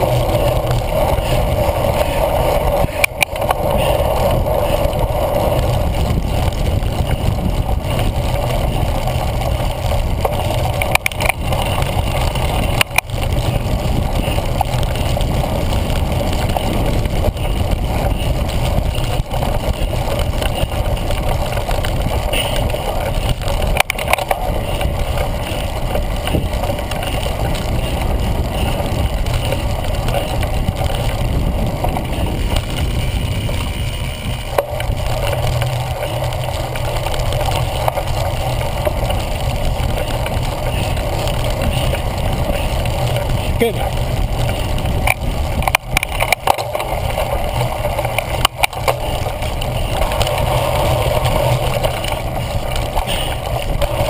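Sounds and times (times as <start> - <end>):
bicycle vibration: 0.0 - 54.0
wind rumble: 0.0 - 54.0.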